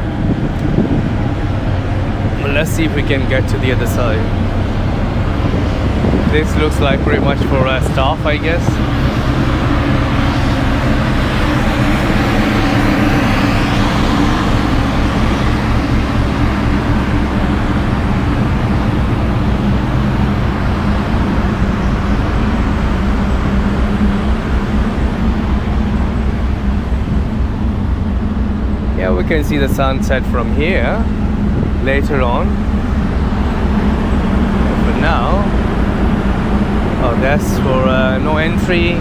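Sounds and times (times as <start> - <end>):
ferry engines droning: 0.0 - 39.0
rushing air: 0.0 - 39.0.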